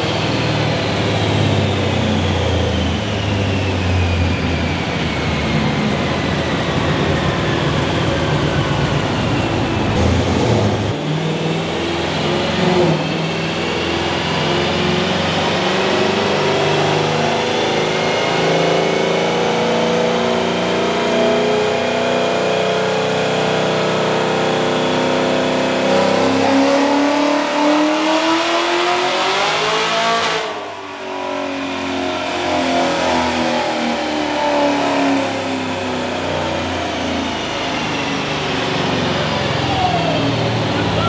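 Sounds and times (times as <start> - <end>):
car engine revving on dyno: 0.0 - 41.0.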